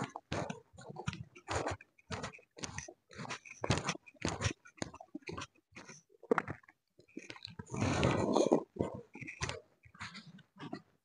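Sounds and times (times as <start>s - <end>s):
chewing and biting food: 0.0s - 11.0s.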